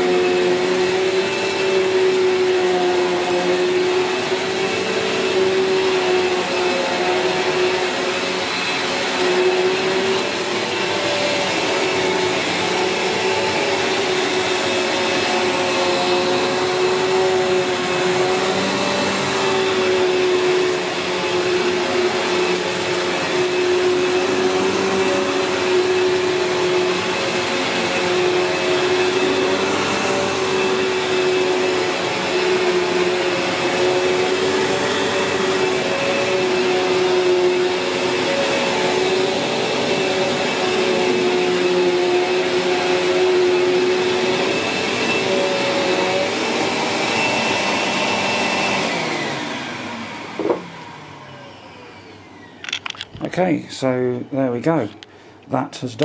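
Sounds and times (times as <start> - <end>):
vacuum cleaner running: 0.0 - 55.3.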